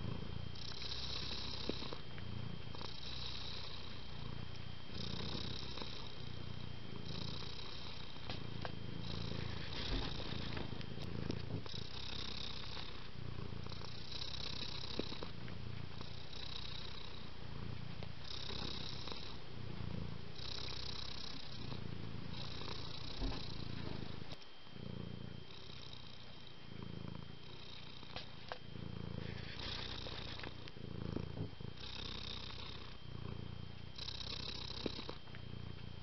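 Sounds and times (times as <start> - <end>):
cat purring: 0.0 - 36.0.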